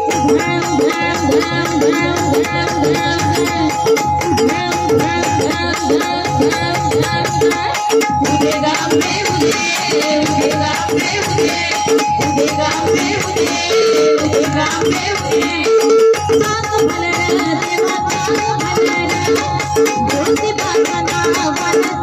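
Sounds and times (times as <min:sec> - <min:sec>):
drums playing steady beat: 0:00.0 - 0:22.0
harmonium melody: 0:00.0 - 0:22.0.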